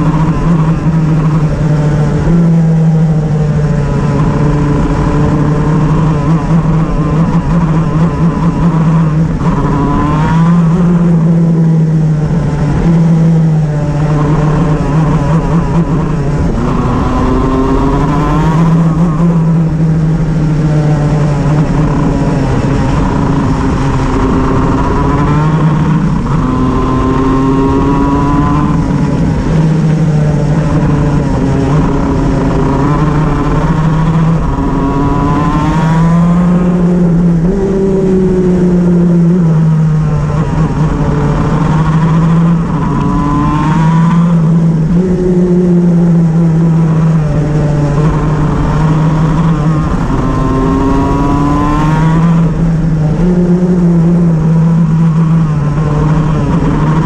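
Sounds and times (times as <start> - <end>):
kart engine revving with misfire: 0.0 - 57.0.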